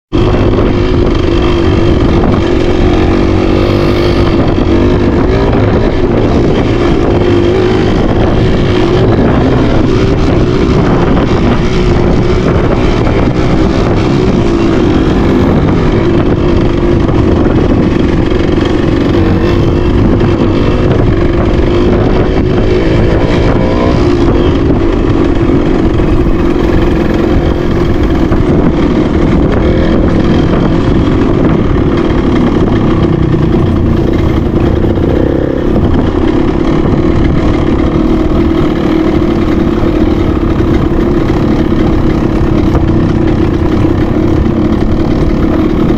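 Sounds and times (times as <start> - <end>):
motorcycle engine running: 0.1 - 45.9.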